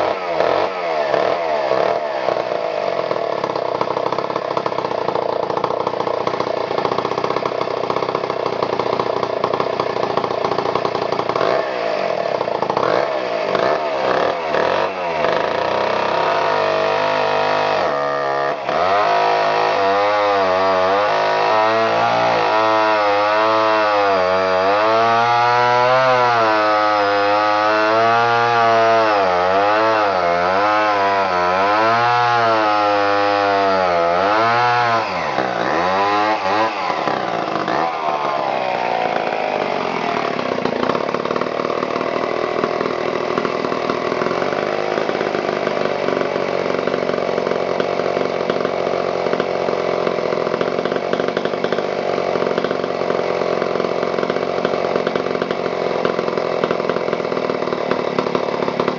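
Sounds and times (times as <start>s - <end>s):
chainsaw cutting log: 0.0s - 58.9s.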